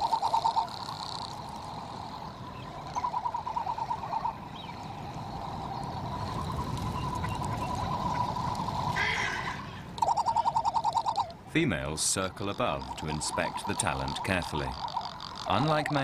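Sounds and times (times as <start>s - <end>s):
frigatebirds calling: 0.0s - 16.0s.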